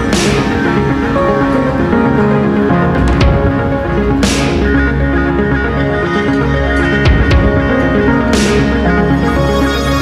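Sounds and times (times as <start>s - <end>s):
music with sustained notes: 0.0s - 10.0s.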